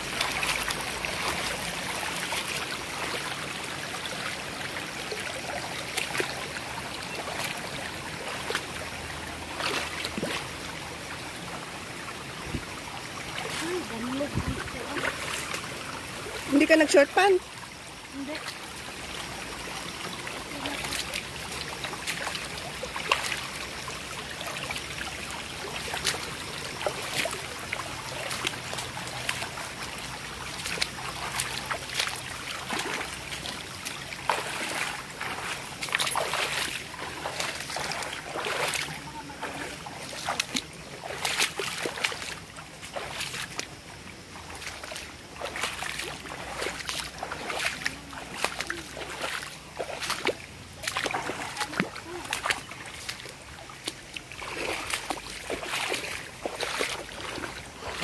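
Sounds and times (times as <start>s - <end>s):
footsteps splashing in stream: 0.0s - 58.0s
water trickling over stones: 0.0s - 58.0s.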